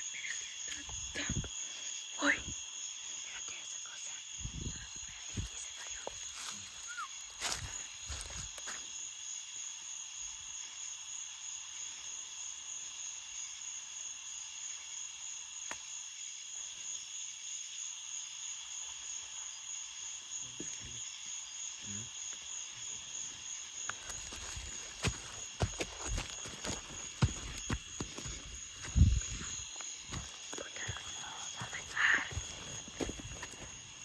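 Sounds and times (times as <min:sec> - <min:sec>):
insect chorus trilling: 0:00.0 - 0:34.0.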